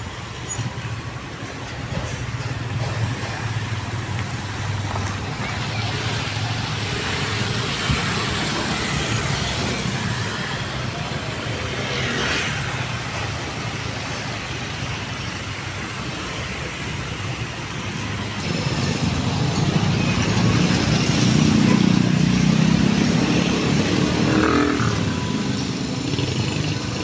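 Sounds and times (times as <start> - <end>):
street traffic passing: 0.0 - 27.0
motorcycles approaching: 2.1 - 27.0.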